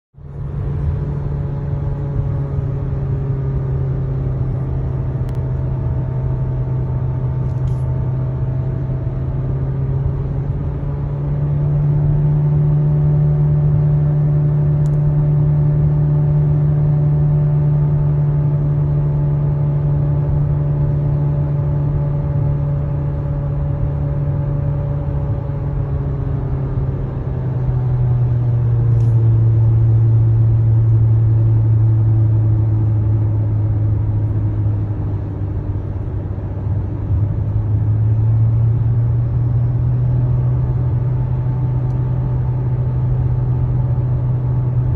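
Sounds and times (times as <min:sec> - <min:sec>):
car droning hum: 0:00.2 - 0:44.9.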